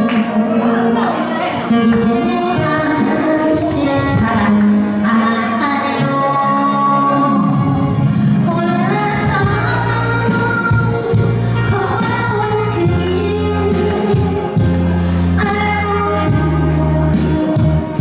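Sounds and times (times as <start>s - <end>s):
amplified backing music: 0.0s - 18.0s
woman singing into microphone: 0.0s - 18.0s.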